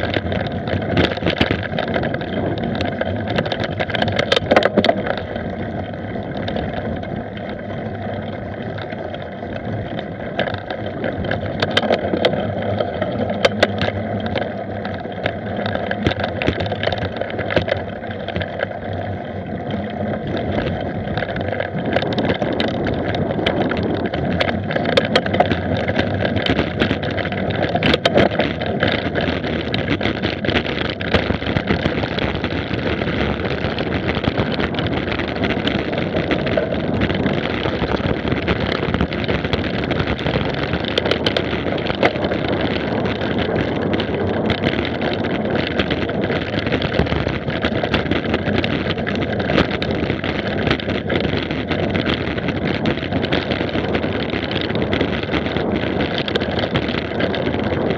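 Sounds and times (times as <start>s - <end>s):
bike rattling over bumps: 0.0s - 57.9s
bike tyre and drivetrain rumble: 0.0s - 57.9s
wind buffeting microphone: 0.0s - 57.9s.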